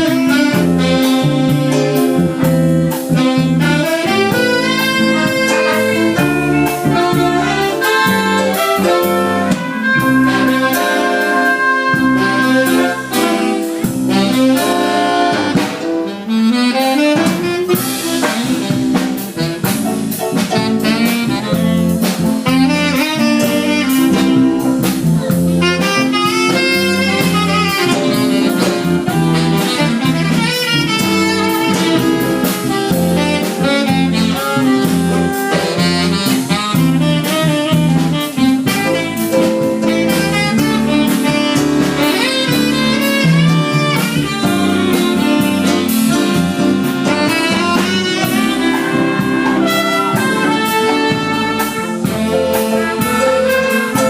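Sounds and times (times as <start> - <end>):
band accompaniment: 0.0 - 54.0
drum kit: 0.0 - 54.0
saxophone melody: 0.0 - 54.0.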